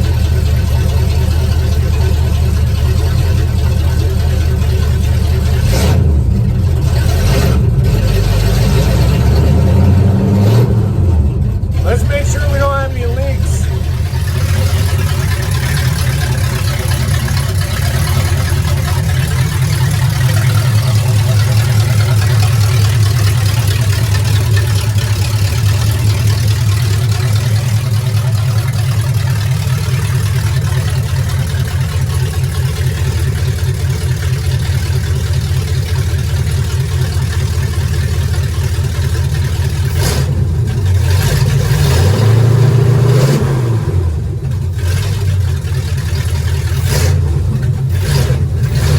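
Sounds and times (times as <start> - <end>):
truck engine idling and revving: 0.0 - 48.9.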